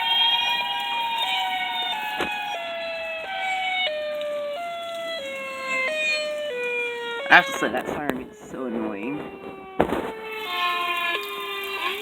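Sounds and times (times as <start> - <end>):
storm warning siren: 0.0 - 12.0.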